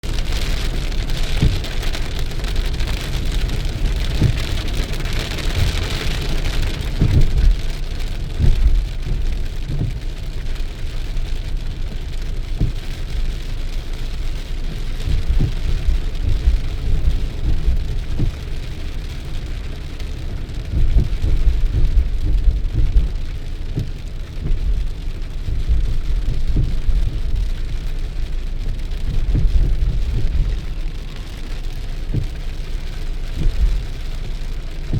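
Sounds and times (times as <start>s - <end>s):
low rumble: 0.0s - 34.9s
rain falling: 0.0s - 34.9s
short low thumps: 1.2s - 1.9s, 2.6s - 10.1s, 12.4s - 13.0s, 14.3s - 34.9s.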